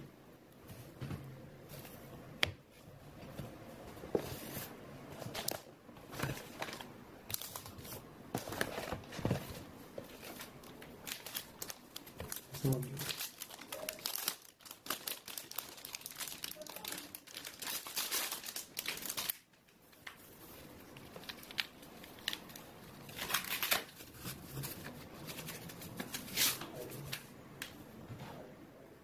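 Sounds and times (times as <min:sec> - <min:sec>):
material crinkling and rustling: 0:00.6 - 0:27.4.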